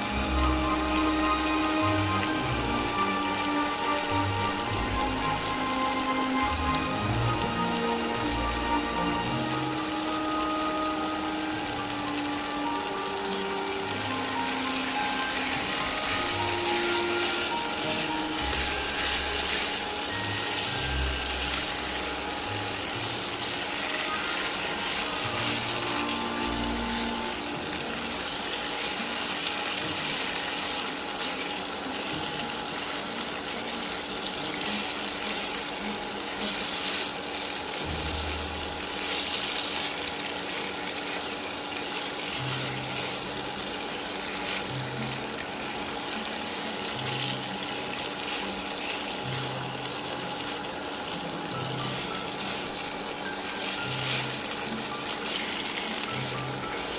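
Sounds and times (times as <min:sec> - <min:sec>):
soft background music: 0:00.0 - 0:56.9
steady hiss: 0:00.0 - 0:56.9.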